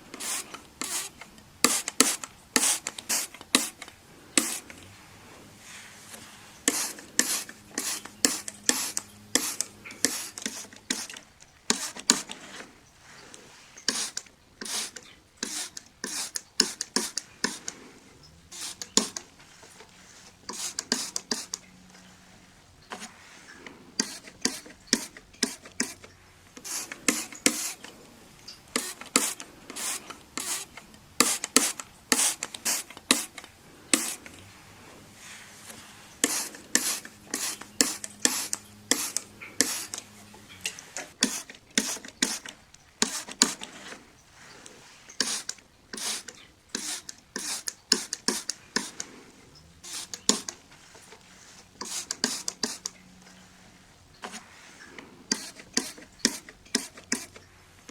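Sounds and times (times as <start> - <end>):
hand wiping window glass: 0.0 - 57.4.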